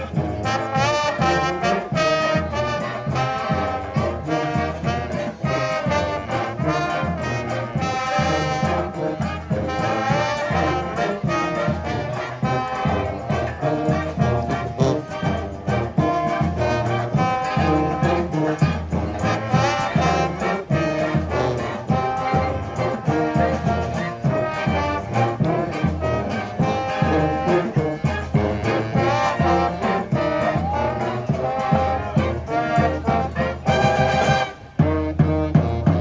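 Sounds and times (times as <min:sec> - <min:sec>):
brass and drum band playing: 0:00.0 - 0:36.0.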